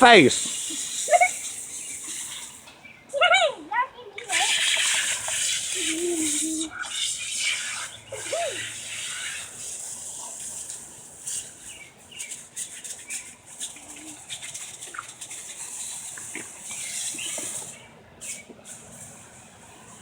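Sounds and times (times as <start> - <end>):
garden hose spraying water: 0.0 - 3.4, 4.0 - 20.0.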